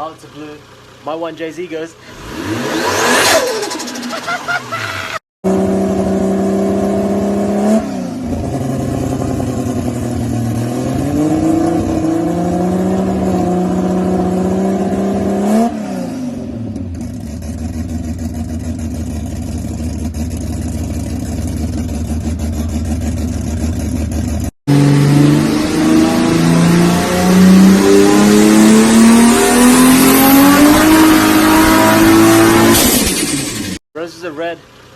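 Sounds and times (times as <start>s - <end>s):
engine revving through exhaust: 2.0s - 4.1s, 5.4s - 33.8s.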